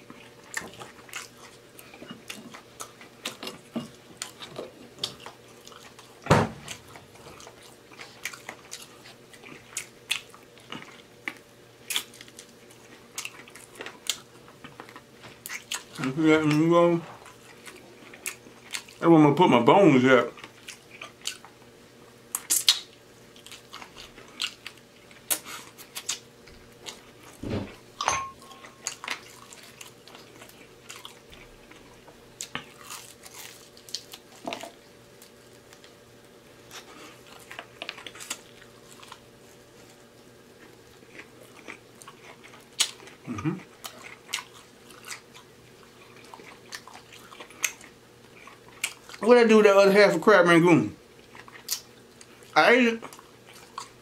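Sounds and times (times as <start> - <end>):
chewing crispy chicken: 0.0 - 27.4, 28.6 - 50.2, 51.0 - 54.0.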